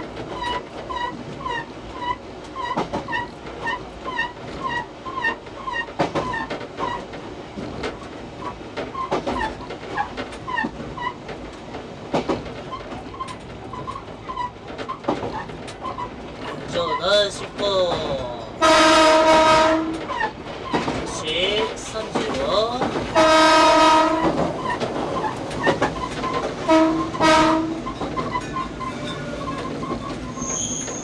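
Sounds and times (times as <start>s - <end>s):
train running on rails: 0.0s - 31.0s.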